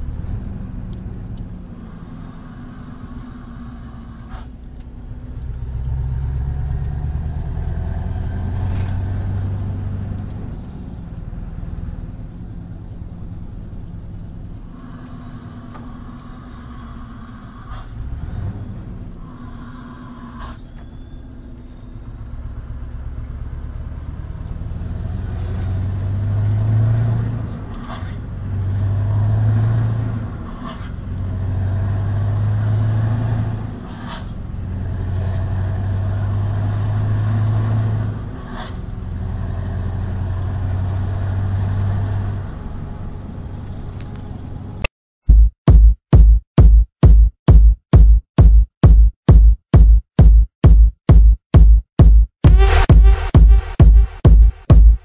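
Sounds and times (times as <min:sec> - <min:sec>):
diesel truck engine accelerating: 0:00.0 - 0:44.9.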